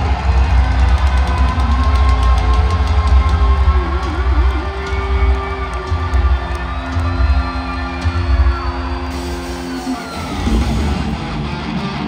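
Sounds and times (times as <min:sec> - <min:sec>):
crowd cheering: 0:00.0 - 0:12.0
heavy metal band playing live: 0:00.0 - 0:12.0.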